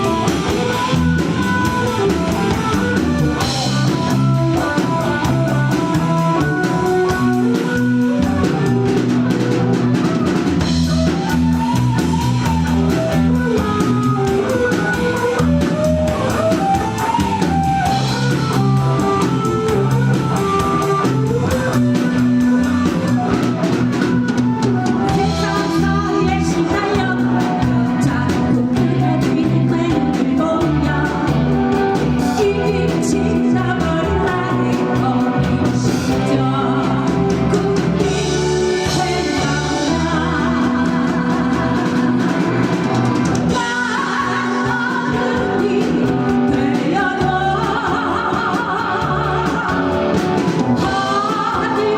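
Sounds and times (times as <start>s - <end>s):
drum kit: 0.0s - 51.9s
electric guitar: 0.0s - 51.9s
person singing: 0.0s - 51.9s.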